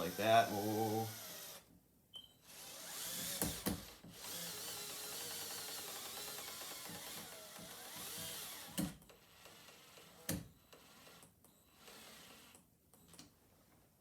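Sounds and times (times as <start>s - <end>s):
power drill motor running: 0.0s - 1.7s, 2.4s - 12.5s.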